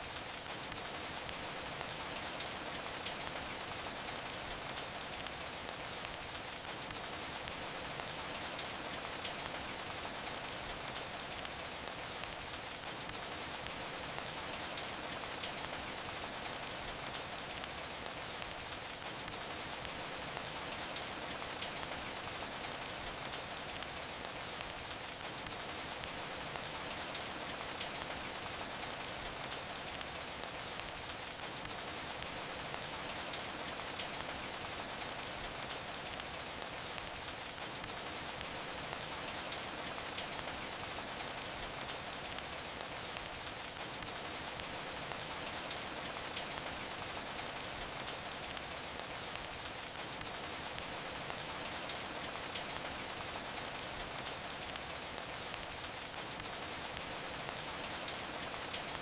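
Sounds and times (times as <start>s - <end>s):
steady rain: 0.0s - 59.0s
wood fire crackling: 0.0s - 59.0s.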